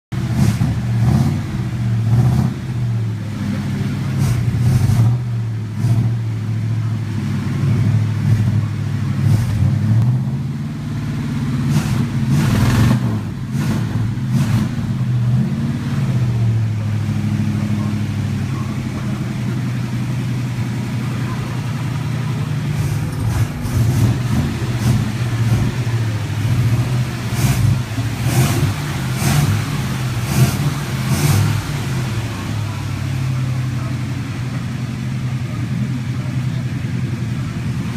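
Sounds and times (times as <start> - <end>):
car engine running: 0.1 - 37.9.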